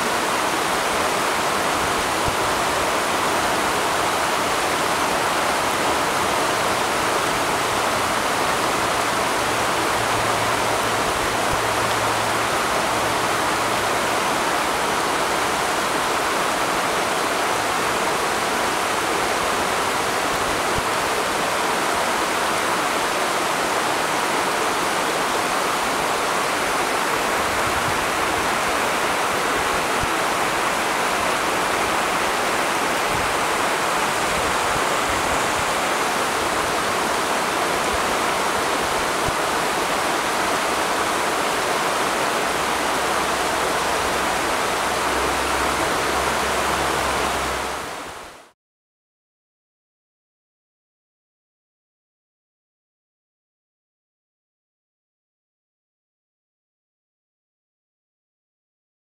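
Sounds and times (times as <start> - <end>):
flowing water roar: 0.0 - 48.6.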